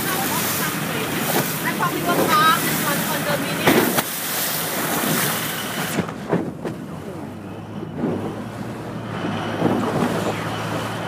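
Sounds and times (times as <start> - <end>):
motor boat engine hum: 0.0 - 11.0
water splashing past hull: 0.0 - 11.0.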